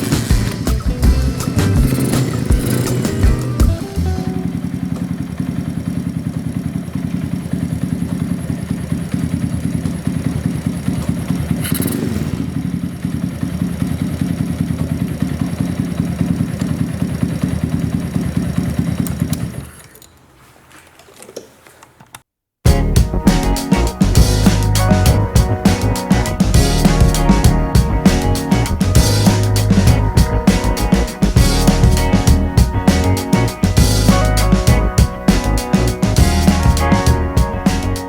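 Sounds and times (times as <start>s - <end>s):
motorcycle engine idling: 0.0s - 19.8s, 22.7s - 38.0s.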